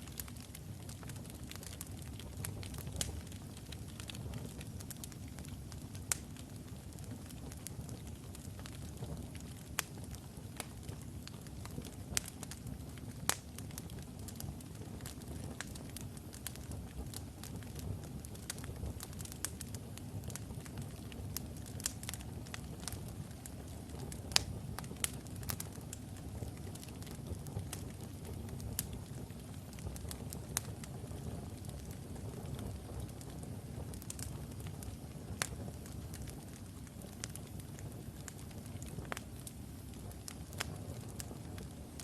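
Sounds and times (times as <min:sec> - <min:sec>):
fire crackles and pops: 0:00.0 - 0:42.0
fireplace flames rumbling: 0:00.0 - 0:42.0.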